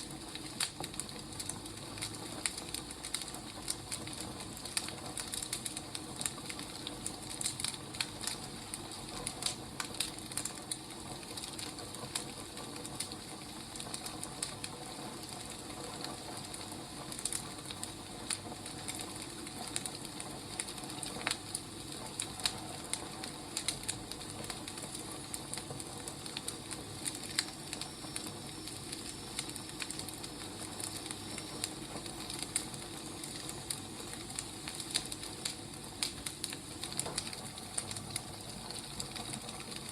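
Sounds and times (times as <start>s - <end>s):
firewood crackling and popping: 0.0s - 39.9s
soft fire hiss: 0.0s - 39.9s.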